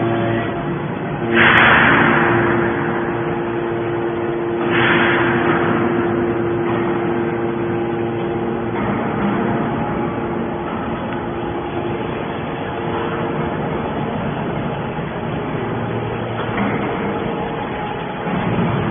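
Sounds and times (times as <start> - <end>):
baler motor and pump hum: 0.0 - 18.9
hydraulic rushing surges: 0.0 - 18.9.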